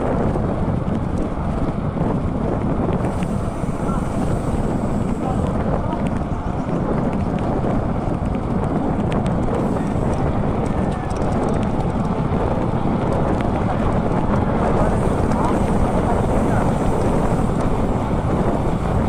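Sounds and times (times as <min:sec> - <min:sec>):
wind rush on microphone: 0:00.0 - 0:19.0.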